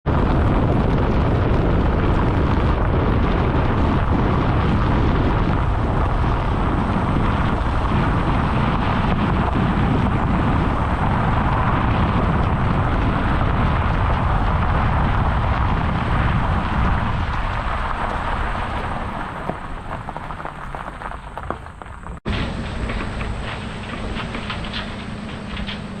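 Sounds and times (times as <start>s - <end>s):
diesel machinery rumbling: 0.0s - 26.0s.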